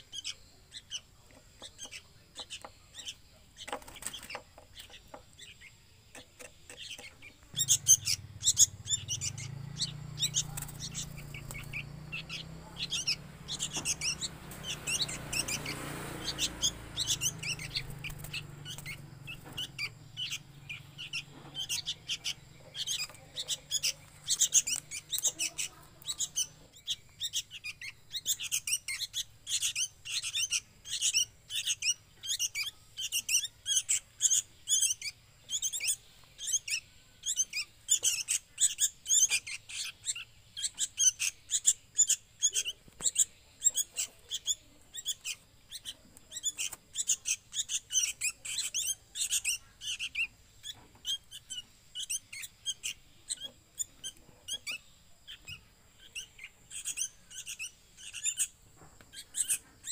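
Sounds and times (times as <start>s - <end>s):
fledglings begging chirps: 0.0s - 59.9s.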